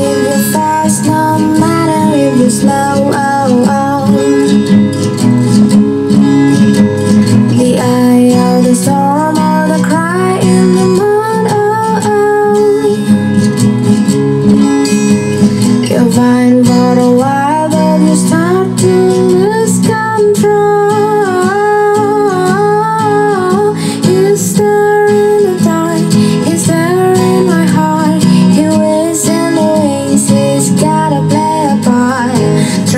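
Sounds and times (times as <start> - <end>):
person singing gliding melody: 0.0 - 4.7, 7.5 - 13.1, 15.8 - 32.9
acoustic guitar accompaniment: 0.0 - 32.9.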